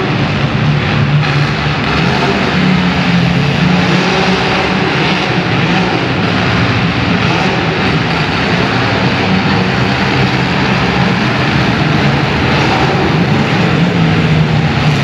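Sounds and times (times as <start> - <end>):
car engines running hard: 0.0 - 15.0.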